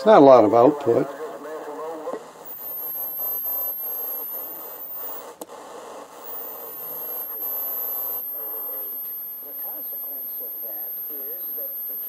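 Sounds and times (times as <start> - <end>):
radio clicks: 0.0 - 12.0
radio receiver hiss and rush: 0.0 - 12.0
thin high whine drifting in pitch: 0.0 - 12.0.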